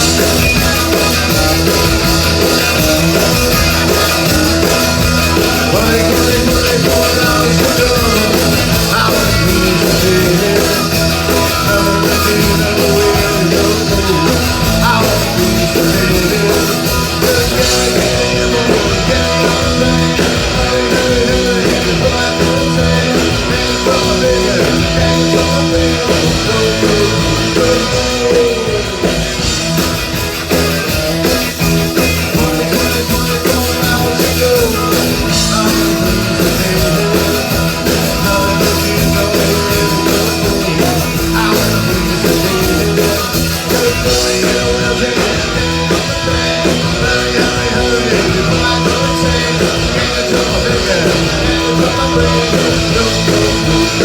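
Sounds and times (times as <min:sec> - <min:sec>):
live rock band: 0:00.0 - 0:54.0
person singing: 0:00.0 - 0:54.0.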